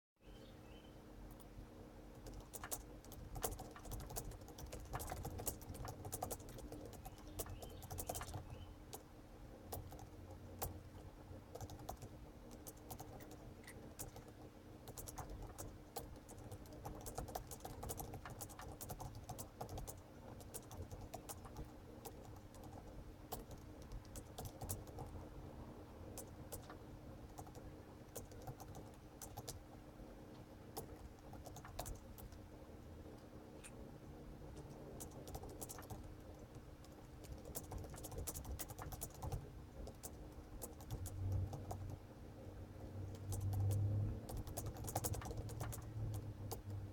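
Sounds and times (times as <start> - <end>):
faint low hum: 0.2 - 46.9.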